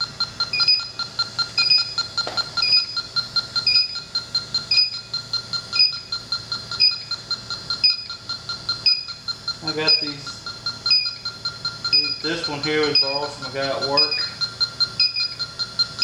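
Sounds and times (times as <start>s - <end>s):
leak detector fast ticking: 0.0s - 16.0s.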